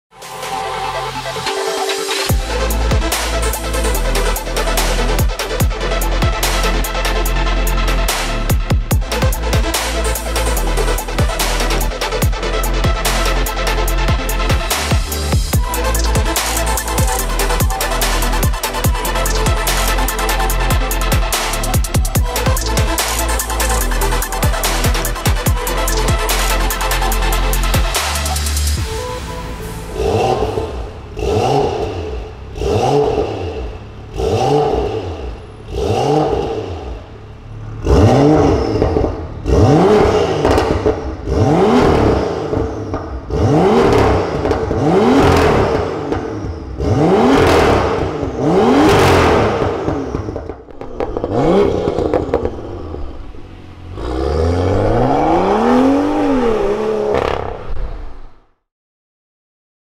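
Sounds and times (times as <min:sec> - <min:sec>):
car engine revving: 0:00.2 - 0:58.4.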